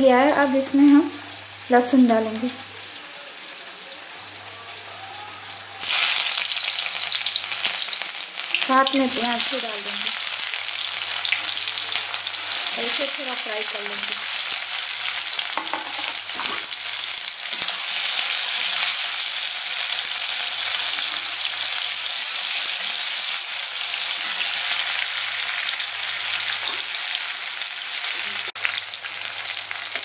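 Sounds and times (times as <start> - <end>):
onion and garlic sizzling in oil: 0.0 - 30.0.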